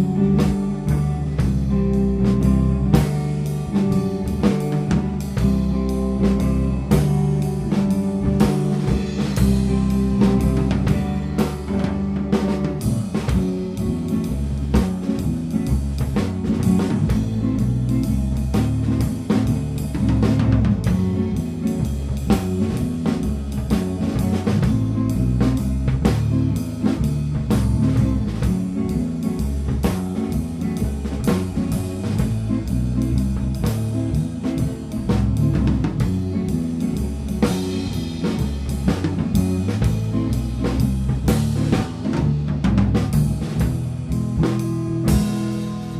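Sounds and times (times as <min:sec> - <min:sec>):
bass guitar: 0:00.0 - 0:45.9
drum kit: 0:00.0 - 0:45.9
electric guitar: 0:00.0 - 0:45.9.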